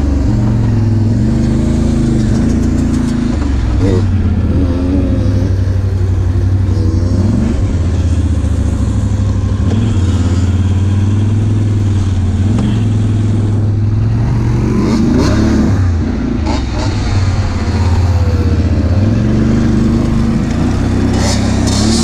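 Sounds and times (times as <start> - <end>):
atv engine droning: 0.0 - 22.0.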